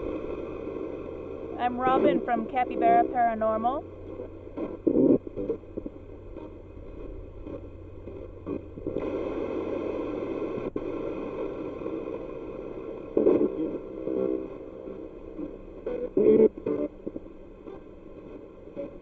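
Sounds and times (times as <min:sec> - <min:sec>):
chopped blips of broadcast sound: 0:00.0 - 0:19.0
radio static: 0:00.0 - 0:19.0.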